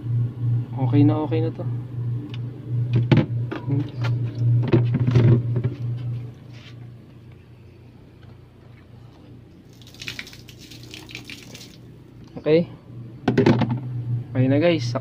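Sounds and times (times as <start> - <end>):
refrigerator compressor hum: 0.0 - 15.0.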